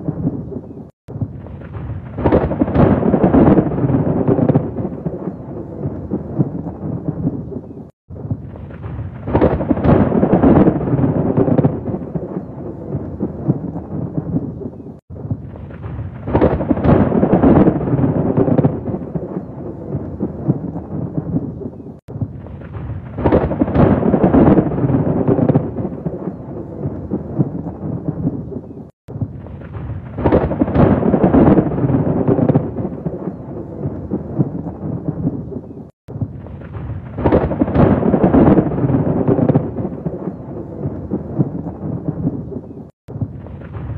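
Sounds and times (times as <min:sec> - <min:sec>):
rolling thunder peals: 0:00.0 - 0:43.9.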